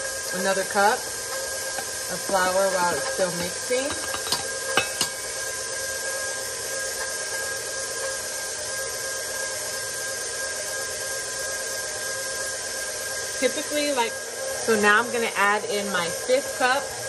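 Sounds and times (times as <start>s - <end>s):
stand mixer motor whirring: 0.0s - 17.0s.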